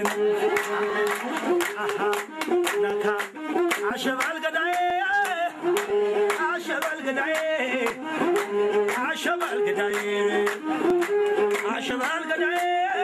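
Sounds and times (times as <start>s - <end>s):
held accompanying notes: 0.0s - 12.5s
rhythmic hand-clapping: 0.0s - 13.0s.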